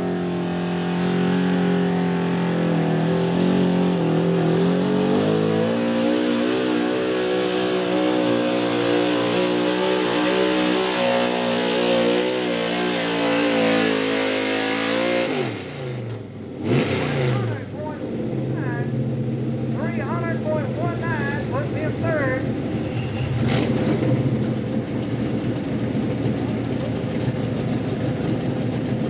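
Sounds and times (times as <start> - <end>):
pulling truck engine at full throttle: 0.0 - 29.0.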